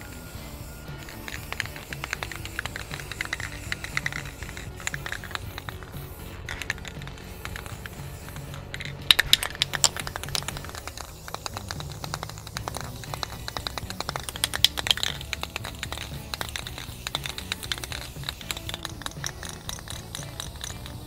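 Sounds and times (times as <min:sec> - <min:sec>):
aerosol can mixing ball rattling: 0:00.0 - 0:21.0.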